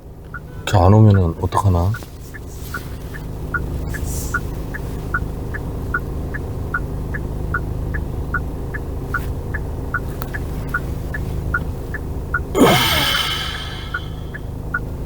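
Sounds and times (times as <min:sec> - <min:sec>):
car idling hum: 0:00.0 - 0:12.6.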